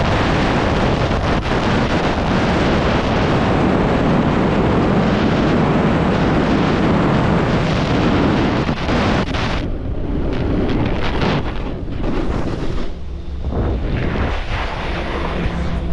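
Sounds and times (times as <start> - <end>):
wind rushing over microphone: 0.0 - 15.9.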